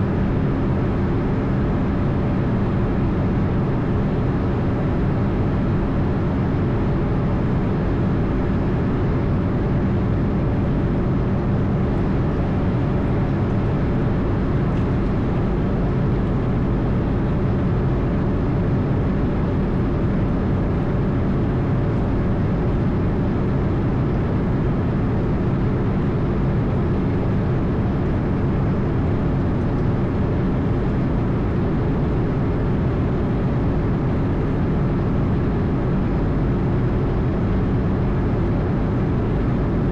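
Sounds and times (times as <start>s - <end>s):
aircraft engine and airflow drone: 0.0s - 39.9s
faint steady whine: 0.0s - 39.9s.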